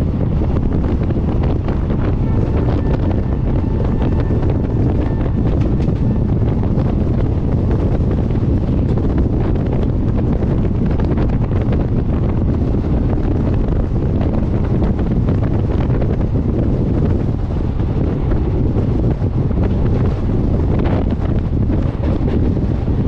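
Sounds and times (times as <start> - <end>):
train coaches rumbling on track: 0.0 - 23.0
wind buffeting microphone: 0.0 - 23.0.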